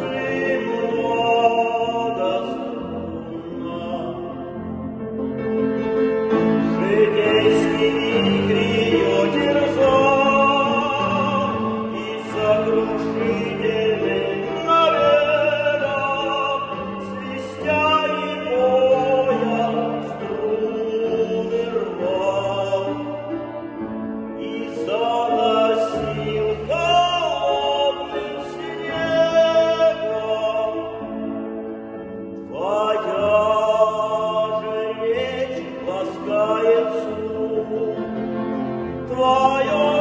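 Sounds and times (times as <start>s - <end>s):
man singing operatically: 0.0s - 4.9s, 6.6s - 23.5s, 24.3s - 31.4s, 32.4s - 40.0s
grand piano accompaniment: 0.0s - 40.0s.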